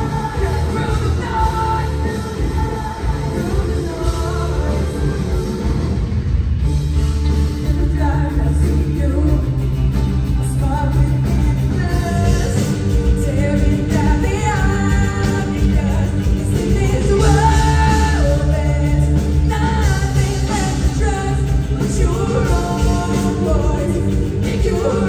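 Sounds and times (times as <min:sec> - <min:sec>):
woman singing: 0:00.0 - 0:06.2, 0:07.4 - 0:25.0
live rock band playing: 0:00.0 - 0:25.0.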